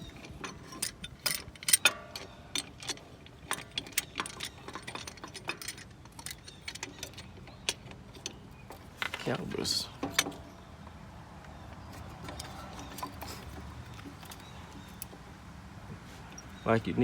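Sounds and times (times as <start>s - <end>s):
metal clinking and rattling: 0.0s - 10.7s, 11.5s - 15.2s.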